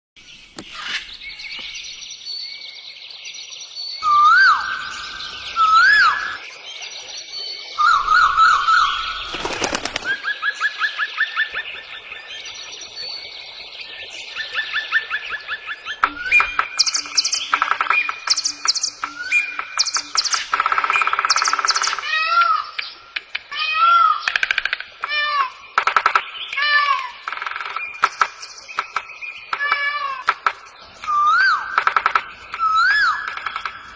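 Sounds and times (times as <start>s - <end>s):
bird singing varied phrases: 0.2s - 33.9s.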